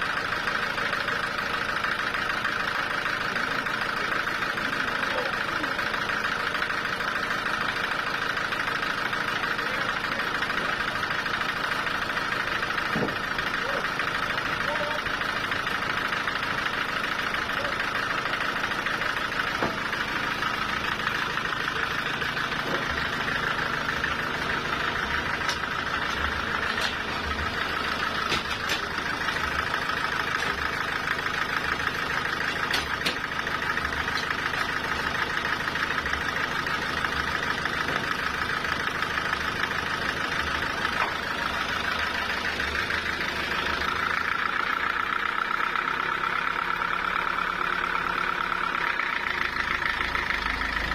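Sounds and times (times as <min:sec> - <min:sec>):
sawmill machinery hum: 0:00.0 - 0:50.9.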